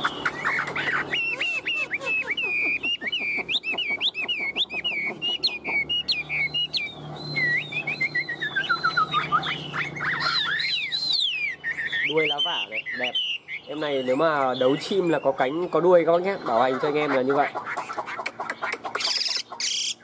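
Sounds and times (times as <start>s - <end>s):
bird singing whistled notes: 0.0s - 16.6s.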